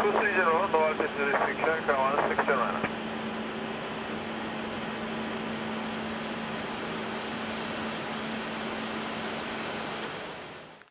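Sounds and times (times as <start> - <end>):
constant low hum: 0.0 - 10.9.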